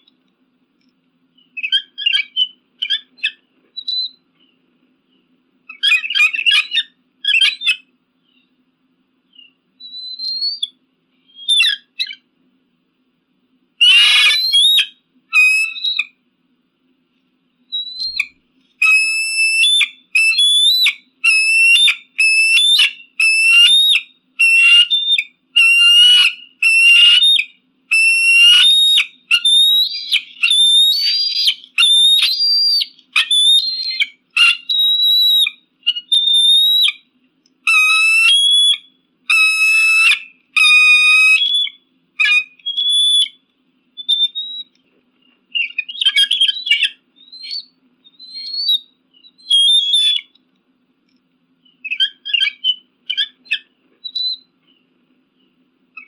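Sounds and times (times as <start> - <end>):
eagle calling: 1.4 - 4.2, 5.7 - 8.5, 9.3 - 12.3, 13.8 - 16.2, 17.7 - 43.4, 44.0 - 44.8, 45.5 - 50.4, 51.7 - 54.5.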